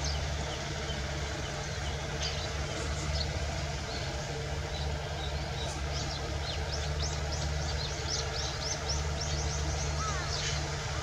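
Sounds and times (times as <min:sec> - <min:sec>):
small birds chirping: 0:00.0 - 0:11.0
tractor engine running: 0:00.0 - 0:11.0.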